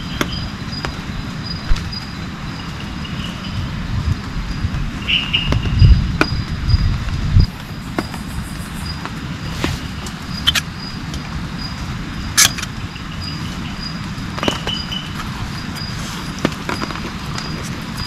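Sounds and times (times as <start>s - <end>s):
insect chirping: 0.0s - 18.0s.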